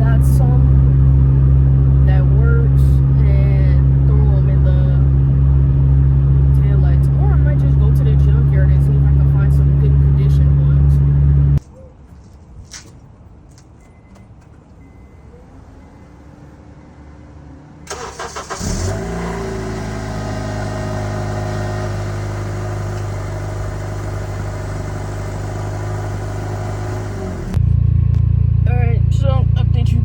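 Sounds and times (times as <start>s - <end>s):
car engine starting and idling: 0.0s - 11.6s, 13.8s - 30.0s.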